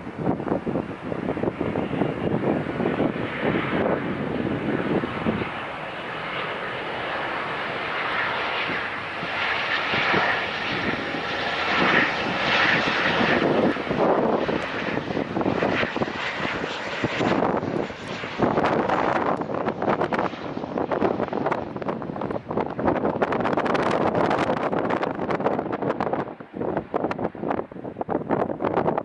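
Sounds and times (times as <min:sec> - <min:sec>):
jet engines of passing airliner: 0:00.0 - 0:29.0
wind buffeting microphone: 0:00.0 - 0:29.0.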